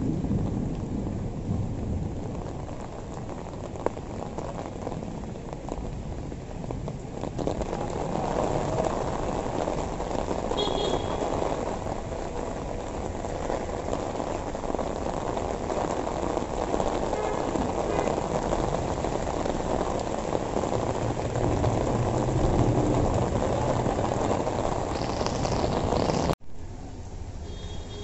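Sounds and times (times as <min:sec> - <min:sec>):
heavy rain on a street: 0:00.0 - 0:28.0.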